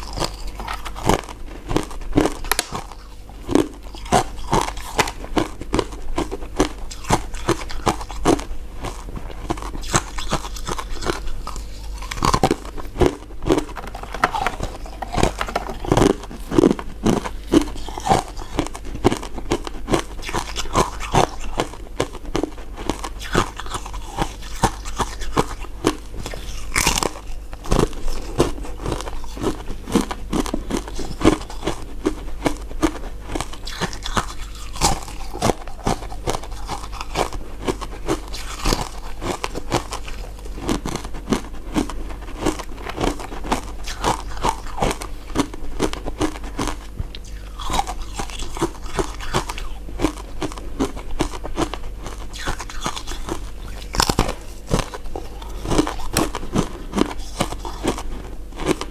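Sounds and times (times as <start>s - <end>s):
crunching ice while chewing: 0.0s - 58.9s.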